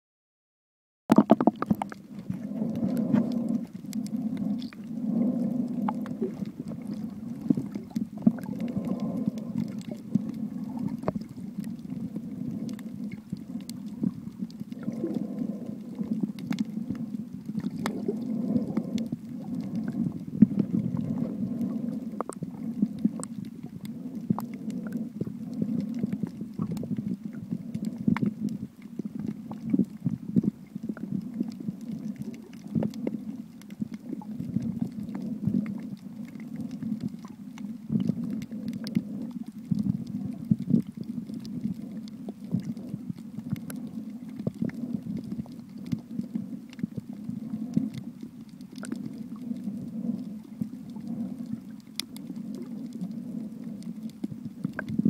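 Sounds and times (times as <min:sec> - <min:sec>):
muffled underwater rumble: 0:01.1 - 0:55.0
sharp underwater clicks: 0:01.1 - 0:55.0.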